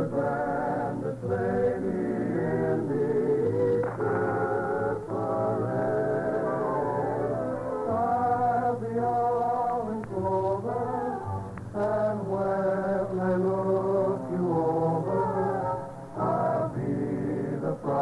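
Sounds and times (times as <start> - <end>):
chorus singing: 0.0 - 18.0.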